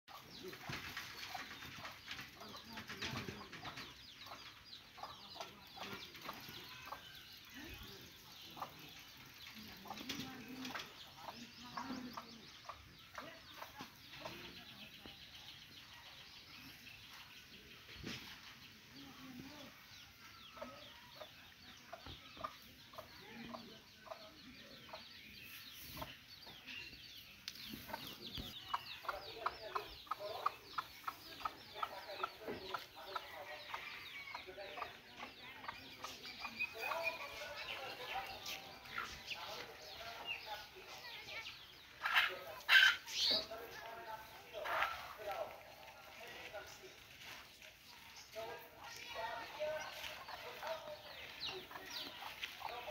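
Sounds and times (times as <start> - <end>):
chickens clucking: 0.1 - 52.9.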